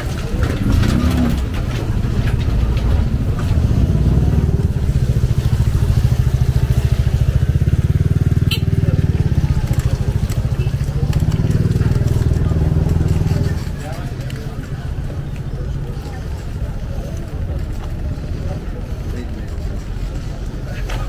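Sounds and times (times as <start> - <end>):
small motorcycle engine running: 0.1 - 21.0.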